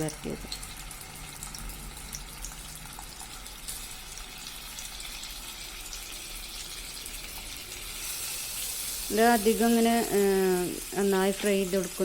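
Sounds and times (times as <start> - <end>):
eggs sizzling in hot oil: 0.0 - 12.0
fine crackles of frying: 0.0 - 12.0.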